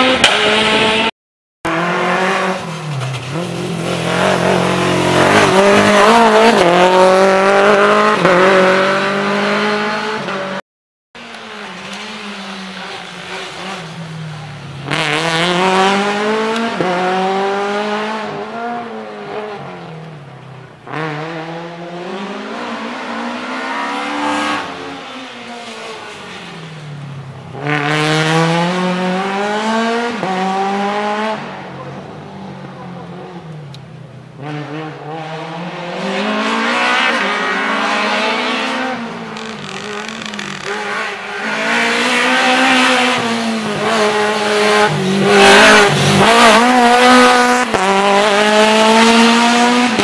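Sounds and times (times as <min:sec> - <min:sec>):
rally car engines revving: 0:00.0 - 0:01.1, 0:01.7 - 0:10.6, 0:11.2 - 0:50.0.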